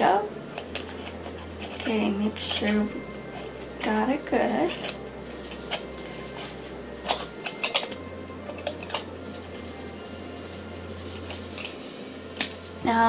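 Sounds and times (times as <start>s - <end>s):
metal lid scraping on glass jar: 0.5s - 12.8s.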